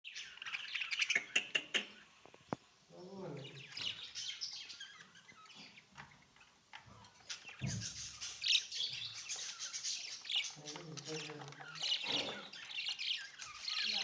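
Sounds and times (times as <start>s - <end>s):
budgerigars chirping and chattering: 0.1s - 14.0s.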